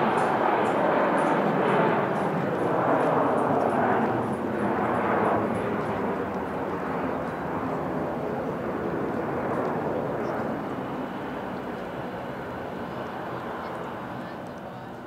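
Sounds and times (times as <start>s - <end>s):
jet engines at take-off power: 0.0s - 15.0s.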